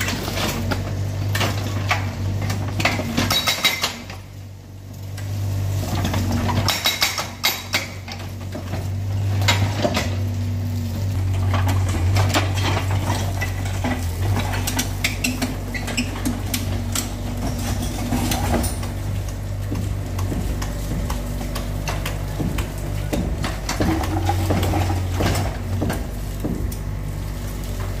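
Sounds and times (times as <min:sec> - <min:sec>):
bricks and rubble clattering: 0:00.0 - 0:04.3, 0:05.8 - 0:28.0
excavator engine running: 0:00.0 - 0:28.0.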